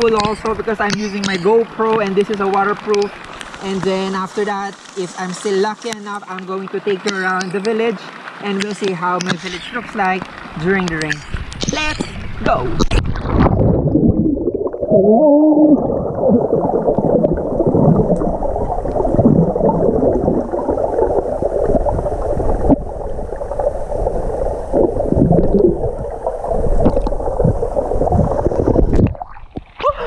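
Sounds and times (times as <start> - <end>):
water churning underwater: 0.0 - 30.0.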